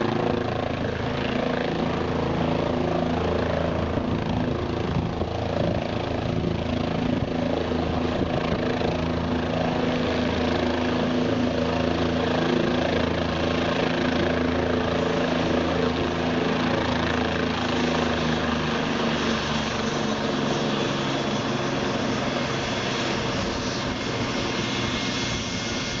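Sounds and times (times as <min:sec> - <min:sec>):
helicopter rotor throb: 0:00.0 - 0:26.0.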